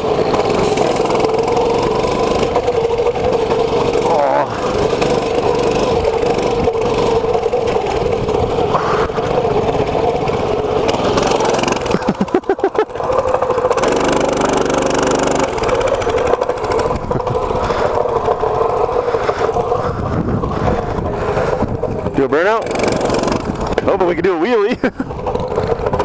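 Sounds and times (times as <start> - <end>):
mini bike engine running: 0.0 - 26.0
heavy low knocks and buffeting: 1.1 - 26.0.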